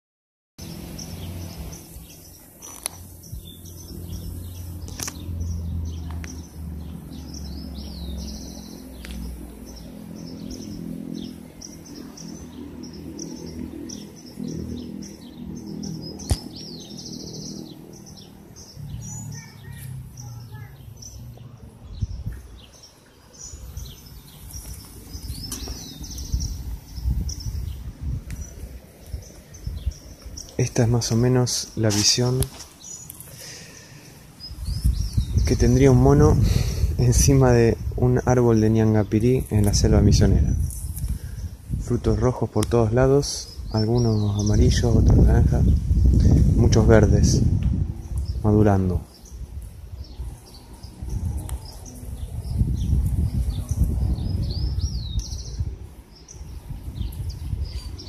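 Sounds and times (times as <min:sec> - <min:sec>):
small birds chirping: 0:00.6 - 0:58.0
low rumble on microphone: 0:00.7 - 0:32.5, 0:33.4 - 0:58.0.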